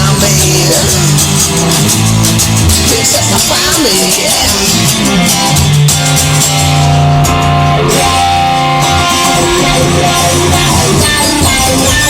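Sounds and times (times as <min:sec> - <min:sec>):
rock music with guitar and bass: 0:00.0 - 0:12.0.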